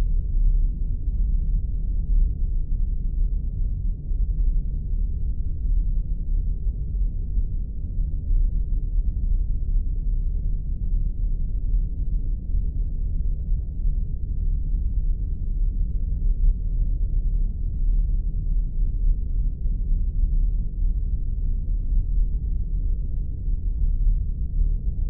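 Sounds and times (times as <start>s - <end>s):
deep rumbling hum: 0.0s - 25.0s.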